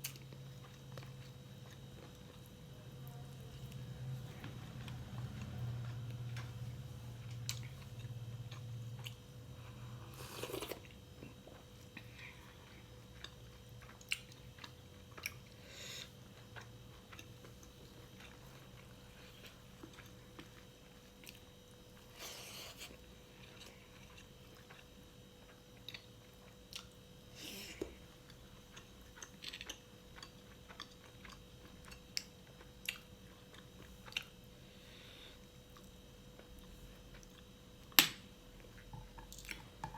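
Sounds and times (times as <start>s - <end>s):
person chewing crunchy food: 0.0s - 2.6s, 3.6s - 39.8s.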